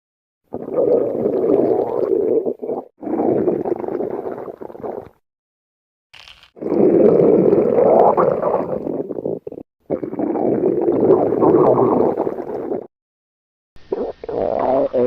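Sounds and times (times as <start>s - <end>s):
stomach growling: 0.5s - 5.2s, 6.5s - 12.9s, 13.8s - 15.0s.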